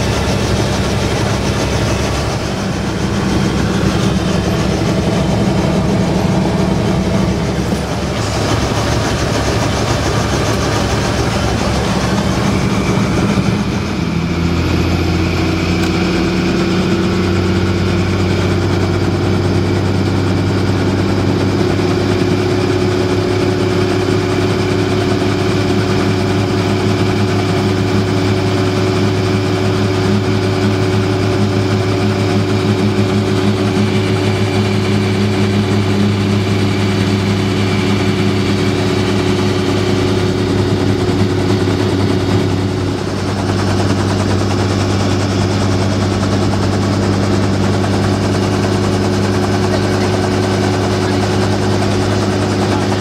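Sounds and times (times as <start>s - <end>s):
helicopter engine and rotor: 0.0s - 53.0s.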